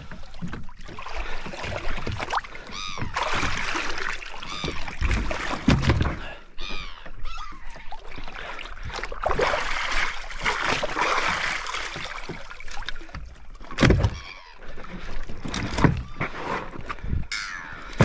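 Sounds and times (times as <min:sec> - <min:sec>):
shallow water splashing: 0:00.0 - 0:18.0.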